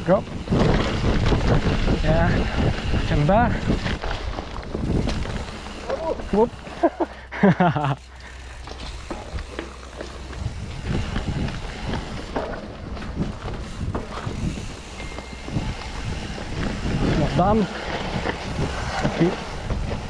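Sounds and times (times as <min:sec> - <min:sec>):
bike rattling over bumps: 0:00.0 - 0:20.0
bike tyres rolling over dirt: 0:00.0 - 0:20.0.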